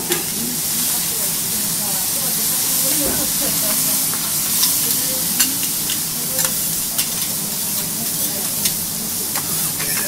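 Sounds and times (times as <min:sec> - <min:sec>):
food sizzling on griddle: 0:00.0 - 0:10.0.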